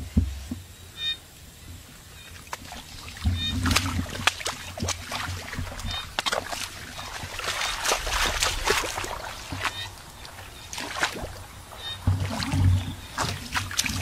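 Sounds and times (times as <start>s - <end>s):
hands squelching in wet mud: 2.3s - 14.0s.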